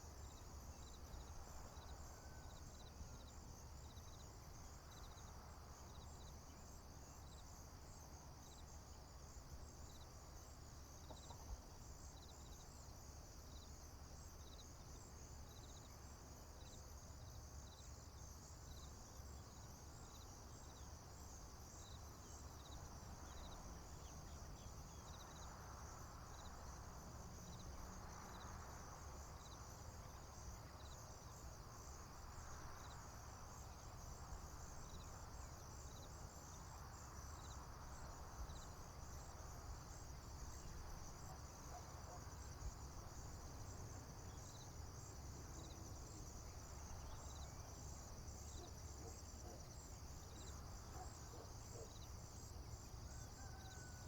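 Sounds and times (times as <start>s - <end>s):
crickets trilling: 0.0s - 54.0s
lower insect chirp: 0.0s - 54.0s.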